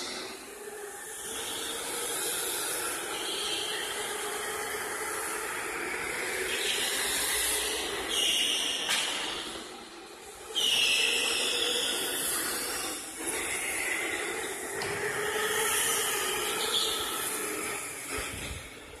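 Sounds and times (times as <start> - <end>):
electric go-kart motor whine: 0.0 - 19.0.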